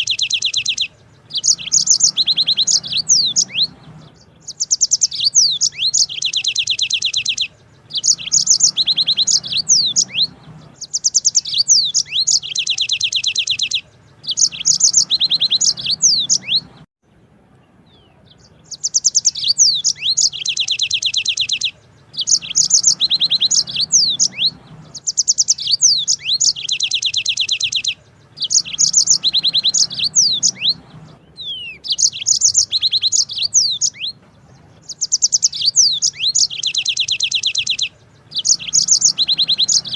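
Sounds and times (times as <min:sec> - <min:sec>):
canary singing trills: 0:00.0 - 0:16.9, 0:17.5 - 0:39.9.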